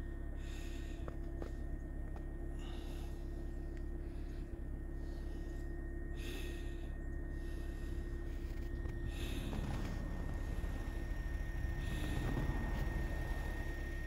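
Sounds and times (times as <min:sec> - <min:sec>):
constant hum: 0:00.0 - 0:14.0
low rumble: 0:00.0 - 0:14.0
slow breathing: 0:00.0 - 0:14.0.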